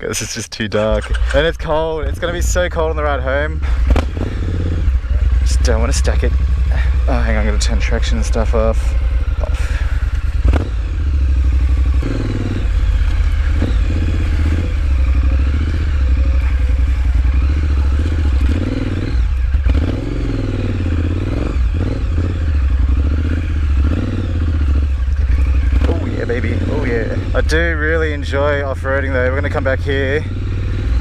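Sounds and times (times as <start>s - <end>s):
motorcycle engine revving: 0.8s - 31.0s.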